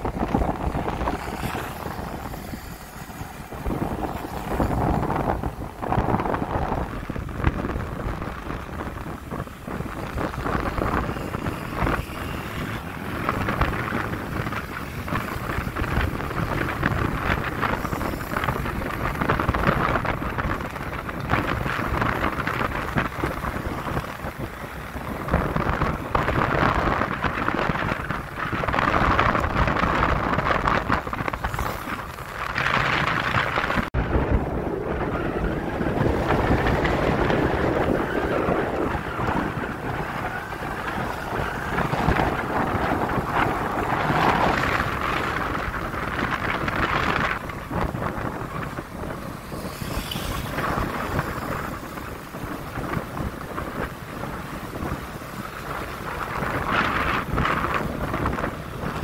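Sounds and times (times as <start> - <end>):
road and engine rumble: 0.0 - 59.0
wind buffeting microphone: 0.0 - 59.0.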